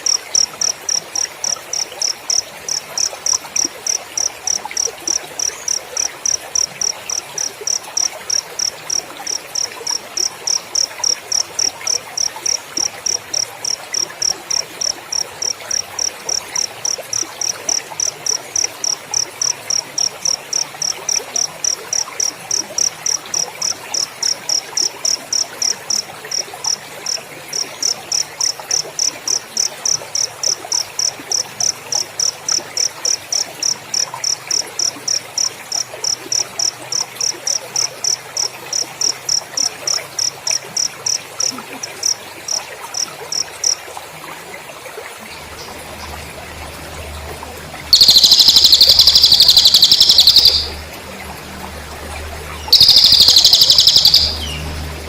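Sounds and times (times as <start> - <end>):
cricket chirping: 0.0 - 44.4, 45.3 - 55.0.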